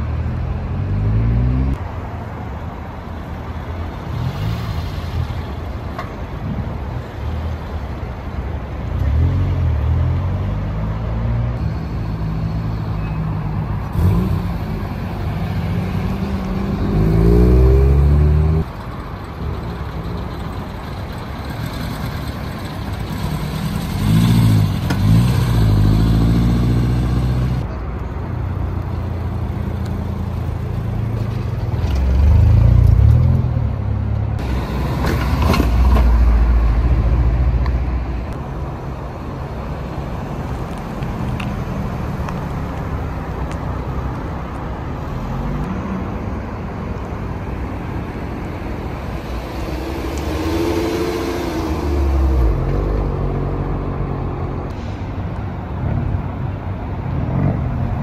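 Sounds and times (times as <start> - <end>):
cars driving slowly past: 0.0 - 58.0.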